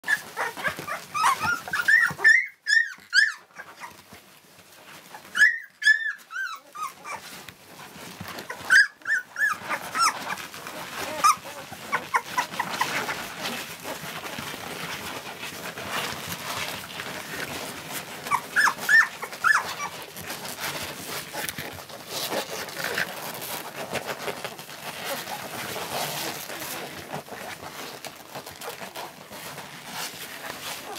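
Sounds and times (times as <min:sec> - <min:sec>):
puppies rustling on bedding: 0:00.0 - 0:30.9
puppies whimpering and squealing: 0:00.1 - 0:30.9.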